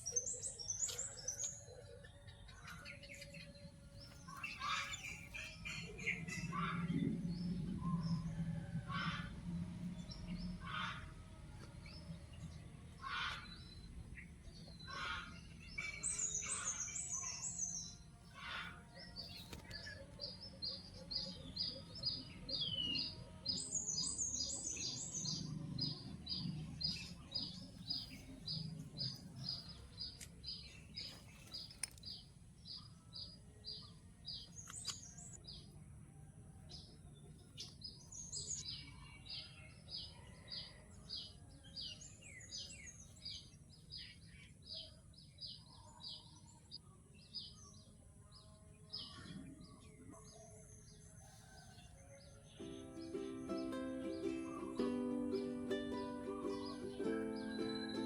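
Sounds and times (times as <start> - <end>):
small birds chirping: 0.0 - 35.9, 36.7 - 58.0.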